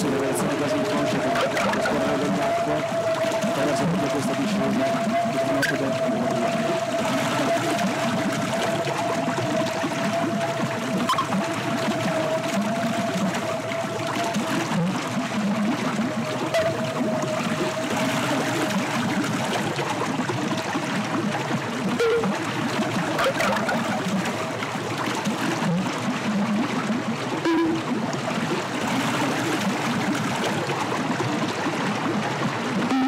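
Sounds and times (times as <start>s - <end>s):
river water flowing: 0.0s - 33.0s.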